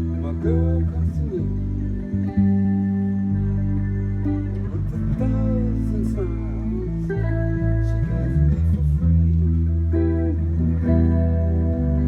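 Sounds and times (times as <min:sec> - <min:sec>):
bending lead guitar line: 0:00.0 - 0:12.0.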